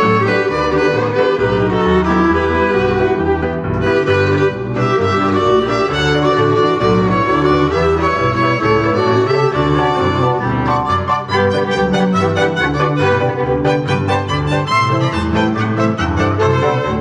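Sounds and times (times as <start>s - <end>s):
instrumental quintet music: 0.0s - 17.0s.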